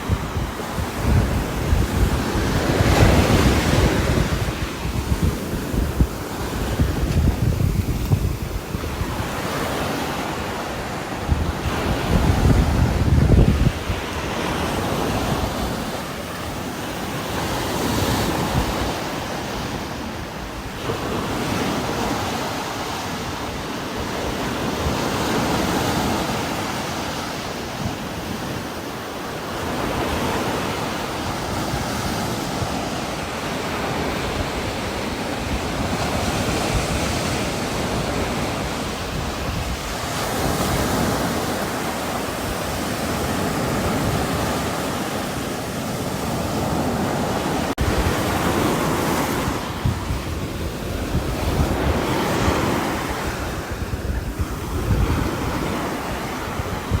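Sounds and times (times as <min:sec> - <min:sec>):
wind blowing through trees: 0:00.0 - 0:57.0.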